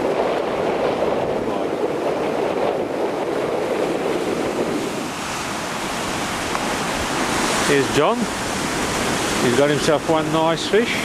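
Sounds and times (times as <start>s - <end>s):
ocean surf washing in: 0.0s - 11.0s
wind on microphone: 0.0s - 11.0s.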